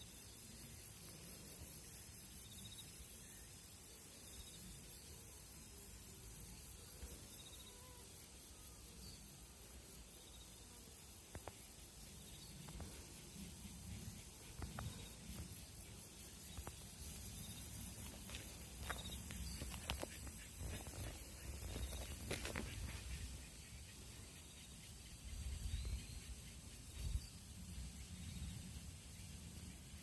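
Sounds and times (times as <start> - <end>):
insects shrilling and chirping: 0.0 - 30.0.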